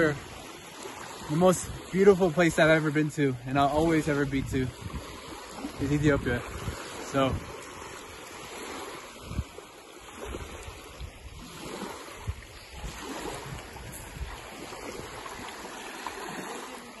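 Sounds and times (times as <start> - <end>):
small waves lapping on shore: 0.0 - 17.0
wind buffeting microphone: 1.2 - 2.8, 3.4 - 16.6.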